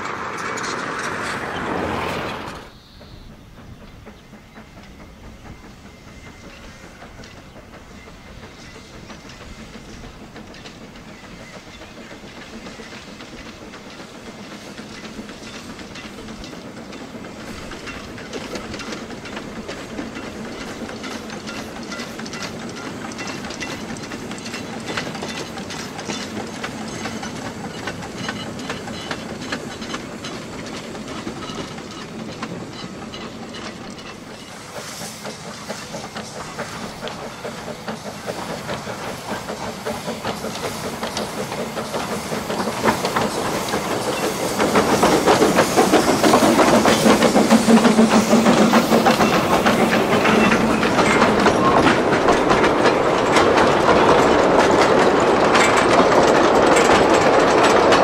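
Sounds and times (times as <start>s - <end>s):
rail clatter: 0.0s - 58.0s
steam hissing: 0.0s - 58.0s
steam locomotive exhaust beats: 0.0s - 58.0s.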